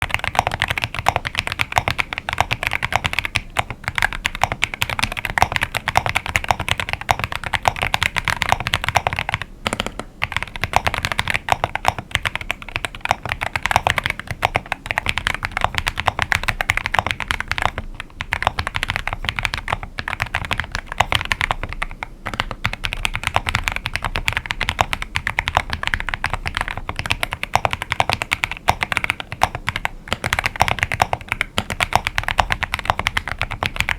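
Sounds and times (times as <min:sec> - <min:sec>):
mechanical keyboard typing: 0:00.0 - 0:33.9.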